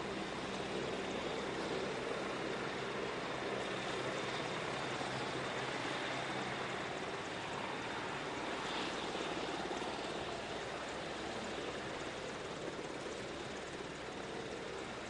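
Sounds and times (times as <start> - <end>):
helicopter turbines and rotor: 0.0 - 15.0.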